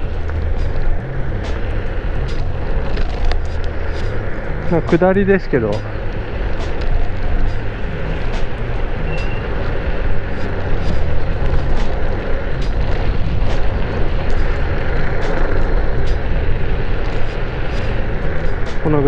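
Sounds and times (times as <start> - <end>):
road noise: 0.0 - 19.0
rushing wind: 0.0 - 19.0
wind buffeting microphone: 0.0 - 19.0.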